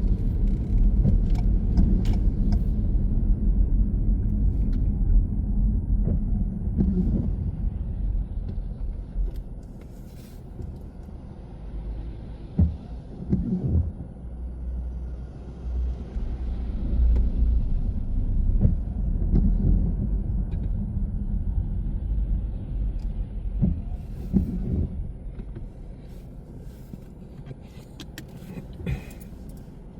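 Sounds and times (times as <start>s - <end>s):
car road and engine rumble: 0.0s - 29.9s.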